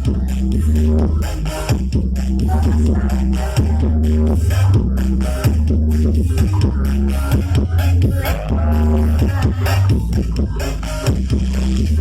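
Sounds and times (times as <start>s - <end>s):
loud music with heavy bass: 0.0s - 12.0s.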